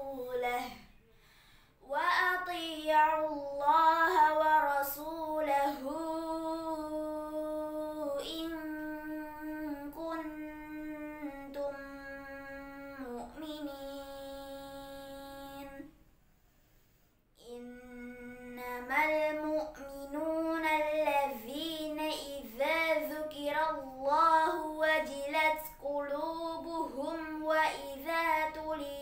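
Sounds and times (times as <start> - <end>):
girl reciting melodic chant: 0.0 - 16.0, 17.4 - 29.0.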